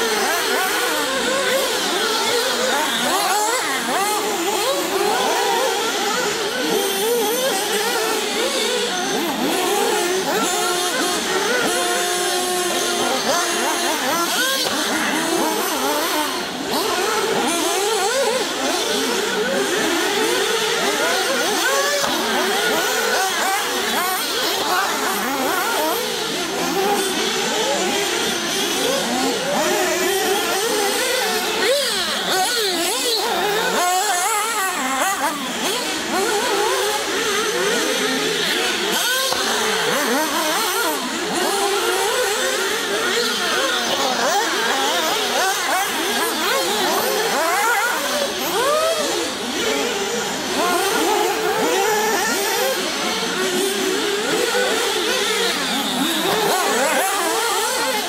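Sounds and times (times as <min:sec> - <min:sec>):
rc car engines whining: 0:00.0 - 0:58.0.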